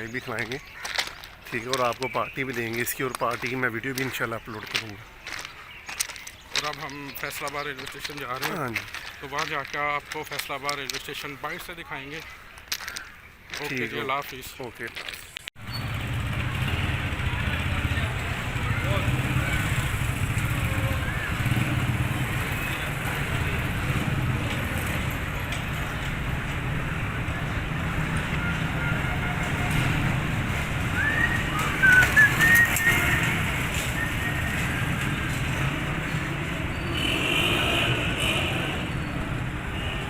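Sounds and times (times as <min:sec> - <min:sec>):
birds calling: 0:00.0 - 0:16.2, 0:17.7 - 0:37.8.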